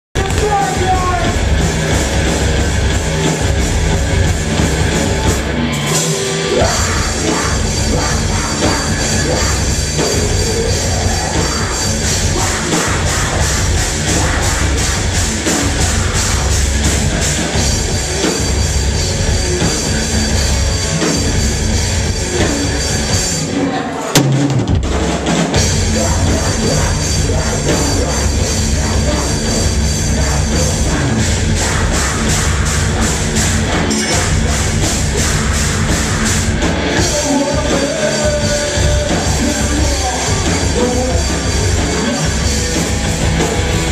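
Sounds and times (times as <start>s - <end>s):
live rock band playing: 0.2s - 43.9s.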